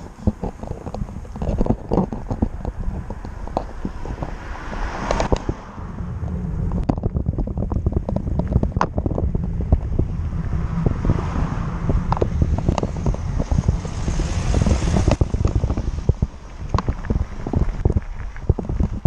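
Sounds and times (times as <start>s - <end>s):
small rattles and knocks: 0.0s - 5.7s, 6.7s - 10.2s, 11.9s - 19.0s
low steady rumble: 0.0s - 19.0s
wind buffeting microphone: 0.0s - 19.0s.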